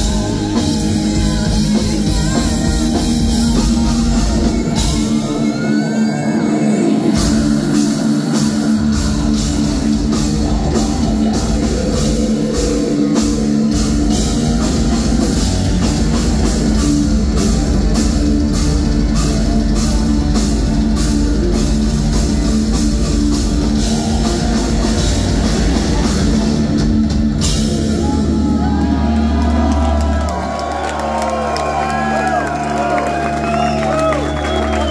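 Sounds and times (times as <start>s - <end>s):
distorted electric guitar: 0.0s - 30.5s.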